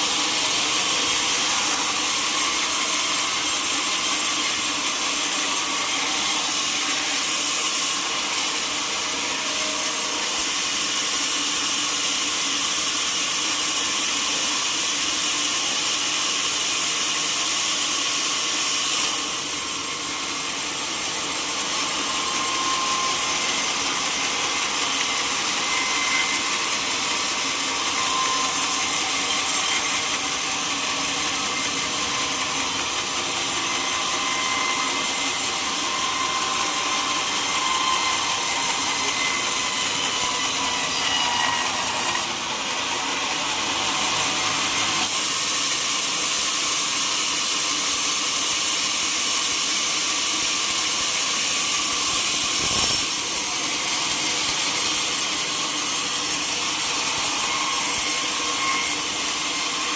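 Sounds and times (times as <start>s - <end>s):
sawmill saw cutting log: 0.0s - 59.9s.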